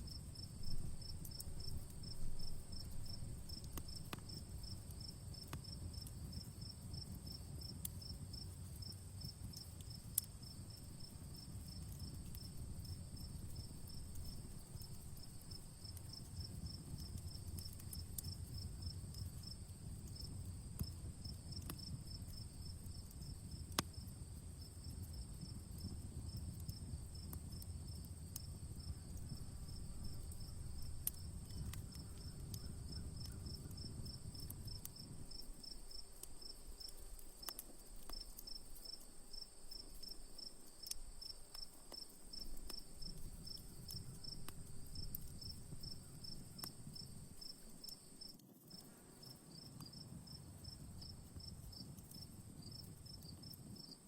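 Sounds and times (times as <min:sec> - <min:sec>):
campfire pops and crackles: 0:00.0 - 0:54.0
crickets chirping: 0:00.0 - 0:54.0.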